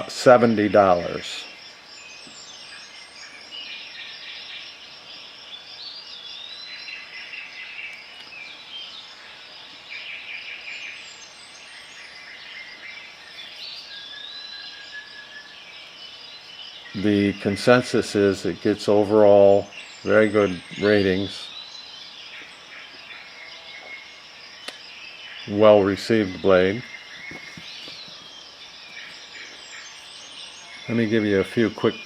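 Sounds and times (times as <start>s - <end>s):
birds chirping: 0.0s - 32.0s
steady high hiss: 0.0s - 32.0s.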